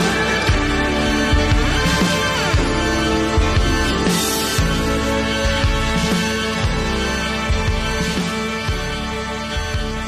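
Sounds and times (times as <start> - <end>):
music with held tones: 0.0 - 10.0.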